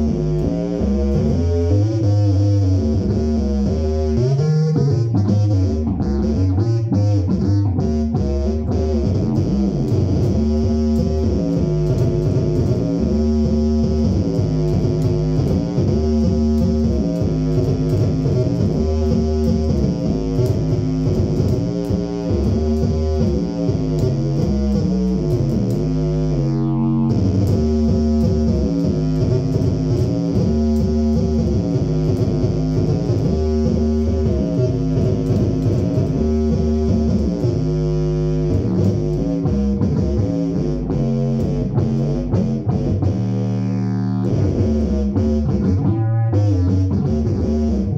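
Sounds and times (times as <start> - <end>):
fretless electric bass notes: 0.0 - 47.9.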